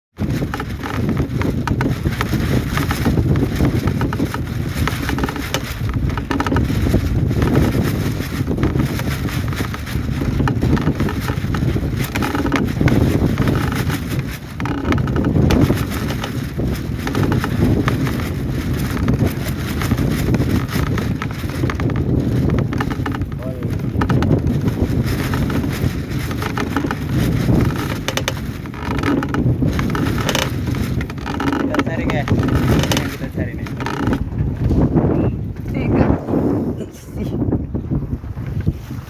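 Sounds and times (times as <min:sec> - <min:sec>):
wind buffeting microphone: 0:00.1 - 0:39.0.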